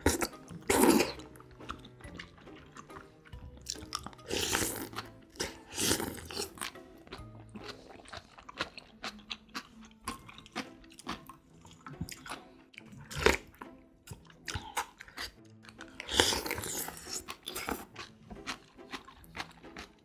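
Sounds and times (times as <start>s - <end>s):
person chewing crunchy food: 0.0s - 20.0s
wet crunches and mouth clicks: 0.0s - 20.0s.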